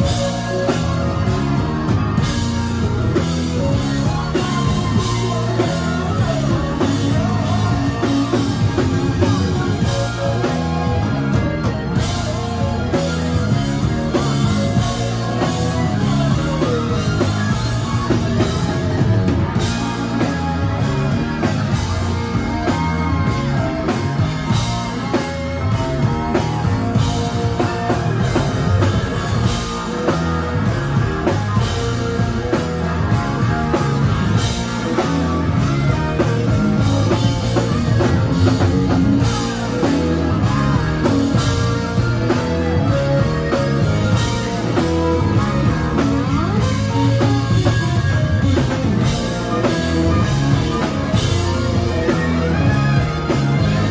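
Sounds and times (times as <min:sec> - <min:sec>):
drum kit: 0:00.0 - 0:53.9
guitars: 0:00.0 - 0:53.9
keyboard: 0:00.0 - 0:53.9.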